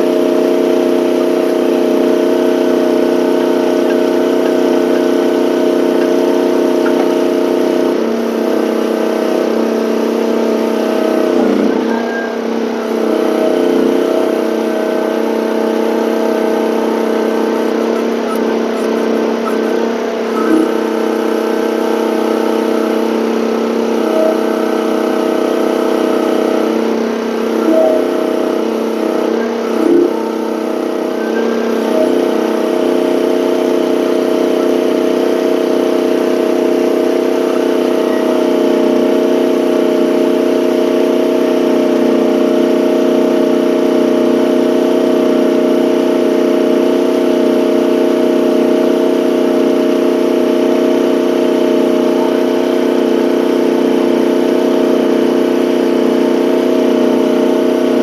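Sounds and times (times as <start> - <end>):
hydraulic whine: 0.0 - 58.0
small engine running steadily: 0.0 - 58.0.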